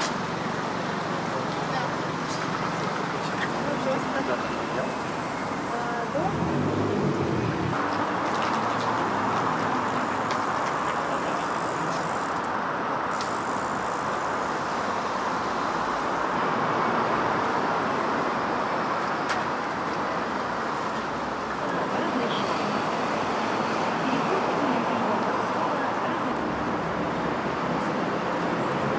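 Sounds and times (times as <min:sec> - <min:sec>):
cars passing: 0:00.0 - 0:28.9.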